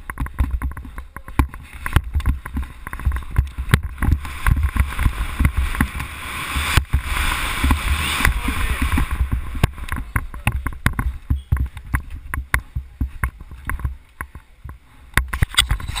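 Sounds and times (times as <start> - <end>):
bike parts knocking and clattering: 0.0 - 6.1, 7.6 - 16.0
wind on microphone: 0.0 - 16.0.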